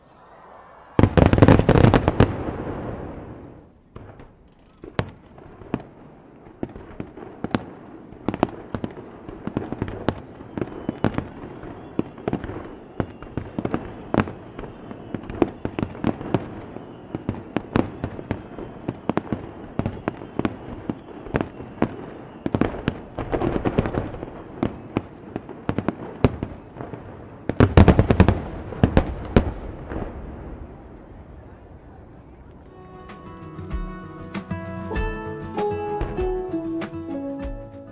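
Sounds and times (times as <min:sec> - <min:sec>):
fireworks bangs: 0:00.0 - 0:37.9
fireworks crackling: 0:00.0 - 0:37.9
heavy fireworks booms: 0:00.8 - 0:32.2.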